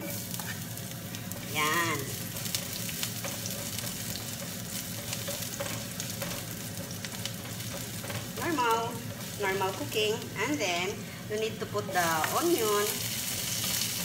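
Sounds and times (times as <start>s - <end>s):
garlic sizzling in a pan: 0.0s - 14.0s.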